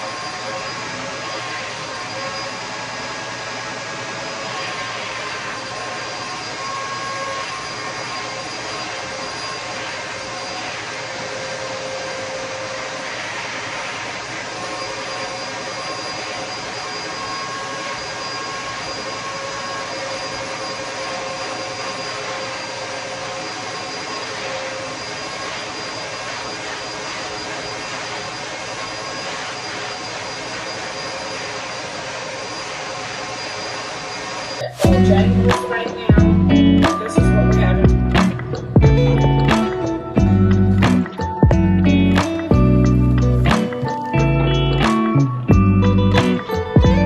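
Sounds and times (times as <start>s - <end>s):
faint whining tones: 0.0s - 47.0s
machine rushing noise: 0.0s - 47.0s.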